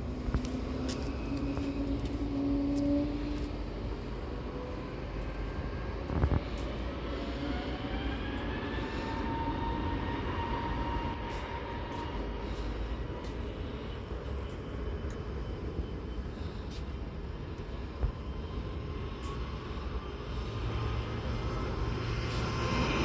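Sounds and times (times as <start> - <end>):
jet engines spooling up: 0.0 - 23.0.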